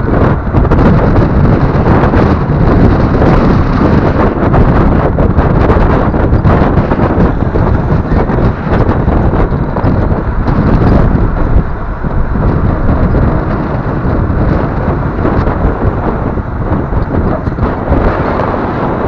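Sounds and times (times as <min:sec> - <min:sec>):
truck engine rumbling: 0:00.0 - 0:19.0
wind buffeting microphone: 0:00.0 - 0:19.0.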